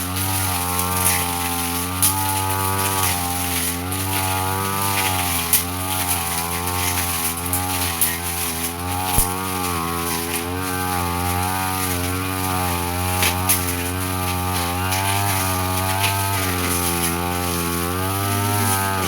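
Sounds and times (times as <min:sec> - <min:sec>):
brush cutter engine cutting grass: 0:00.0 - 0:19.0.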